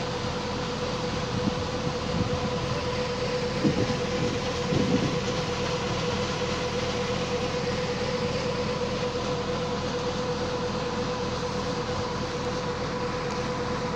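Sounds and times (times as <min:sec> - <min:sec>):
mechanical drone hum: 0:00.0 - 0:13.9.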